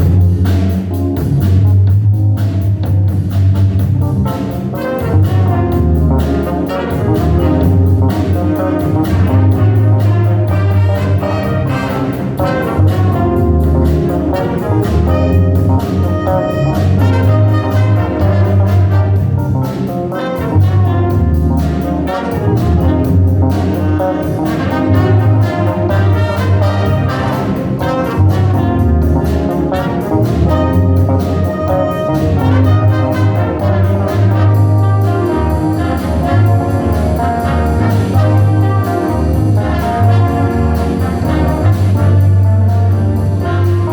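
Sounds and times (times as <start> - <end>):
trumpets and trombones: 0.0 - 2.5, 3.2 - 43.9
bass line: 0.0 - 43.9
steady drum beat: 0.0 - 43.9.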